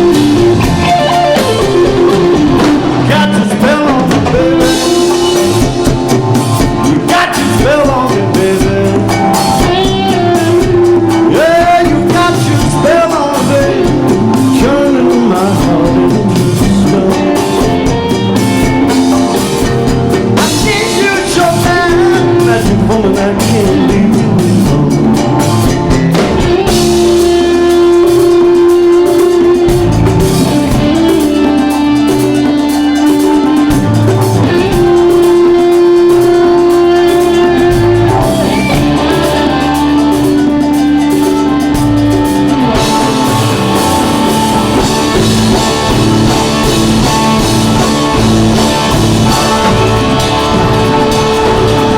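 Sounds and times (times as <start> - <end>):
drum kit: 0.0 - 51.9
guitar with bending lead lines: 0.0 - 51.9
held organ notes: 0.0 - 51.9.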